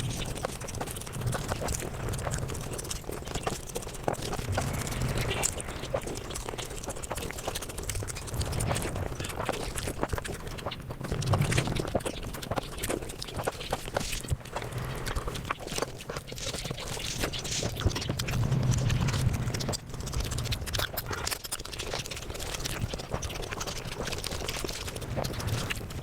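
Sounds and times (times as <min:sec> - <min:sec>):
rapid chewing and lip-smacking: 0:00.0 - 0:26.0.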